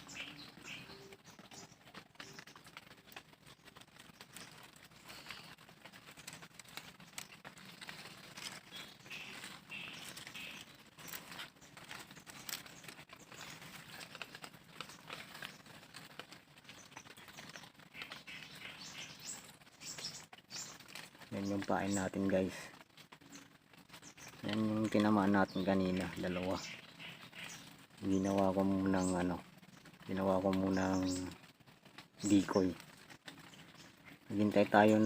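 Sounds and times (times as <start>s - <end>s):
small ticks and rustles: 0.0s - 35.0s.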